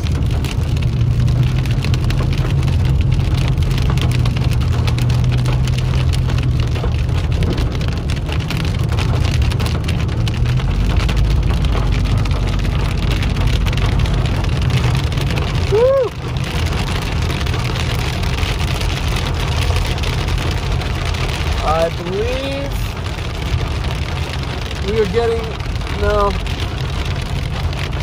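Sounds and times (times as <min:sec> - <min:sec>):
car driving on wet road: 0:00.0 - 0:28.0
heavy rain on car roof: 0:00.0 - 0:28.0.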